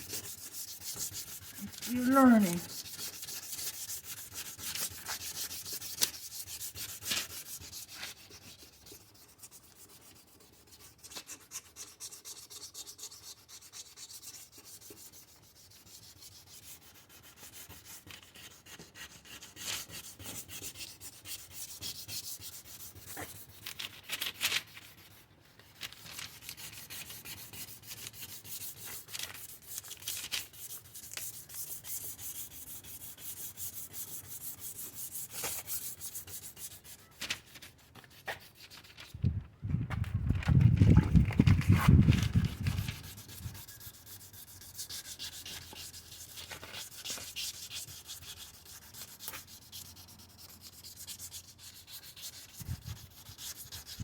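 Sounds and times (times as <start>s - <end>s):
sandpaper rubbing on plastic: 0.0s - 39.2s, 40.0s - 54.0s.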